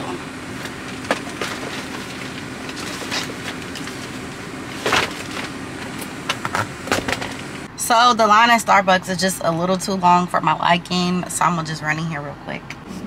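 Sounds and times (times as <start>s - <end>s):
car cabin running hum: 0.0s - 13.0s.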